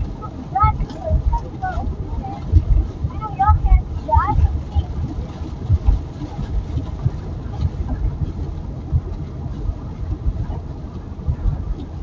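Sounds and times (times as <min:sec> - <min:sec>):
car driving rumble: 0:00.0 - 0:12.0
uneven low thumps: 0:00.0 - 0:12.0.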